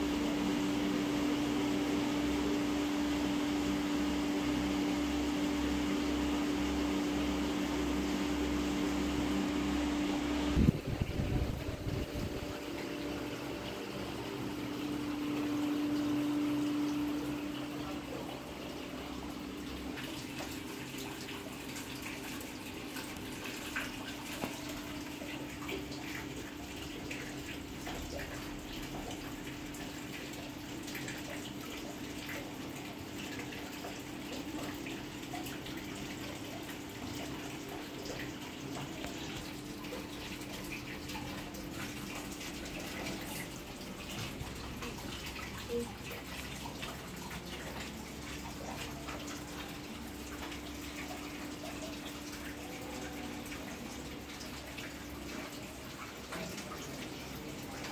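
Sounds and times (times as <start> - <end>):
water running and trickling: 0.0 - 57.9.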